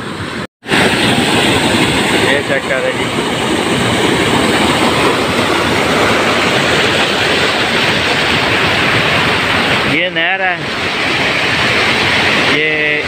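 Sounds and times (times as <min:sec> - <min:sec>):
turbulent water rushing: 0:00.0 - 0:13.0.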